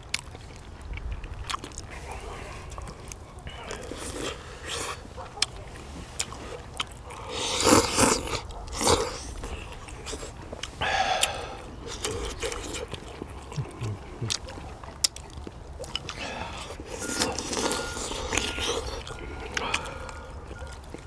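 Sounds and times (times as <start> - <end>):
chewing: 0.0 - 21.0
slurping: 0.1 - 21.0.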